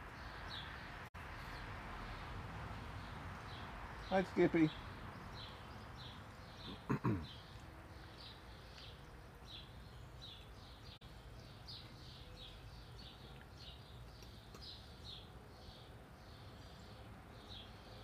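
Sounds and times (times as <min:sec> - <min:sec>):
bird chirping: 0:03.0 - 0:18.0.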